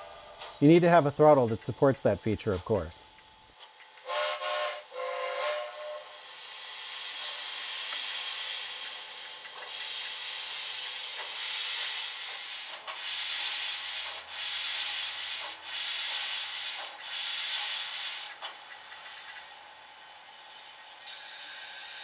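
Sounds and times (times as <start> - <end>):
steam locomotive hissing chuffs: 0.0 - 3.0, 4.0 - 22.0.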